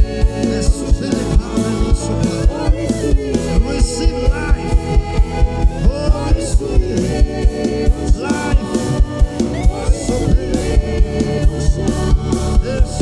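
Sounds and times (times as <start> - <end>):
band playing: 0.0 - 13.0
steady drum beat: 0.0 - 13.0
voices singing: 0.0 - 13.0.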